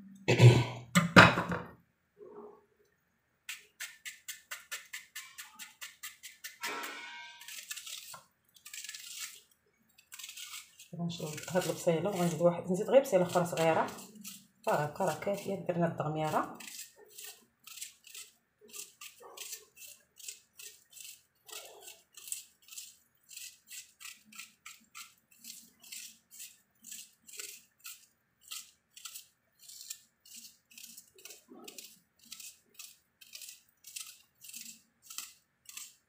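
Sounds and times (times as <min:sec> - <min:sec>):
knife cutting onion: 0:03.5 - 0:36.0.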